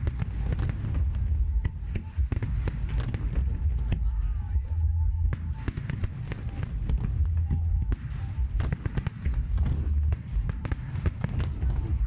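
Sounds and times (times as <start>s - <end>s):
fireworks bangs and crackles: 0.0s - 12.0s
low rumble of booms: 0.0s - 12.0s.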